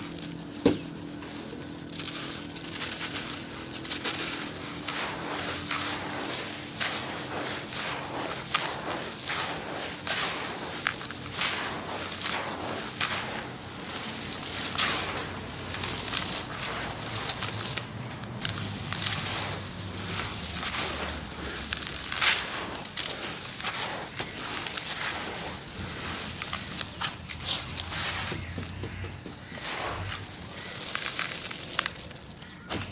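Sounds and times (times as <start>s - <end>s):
grit pouring into plastic bucket: 1.9s - 28.8s, 29.4s - 32.6s.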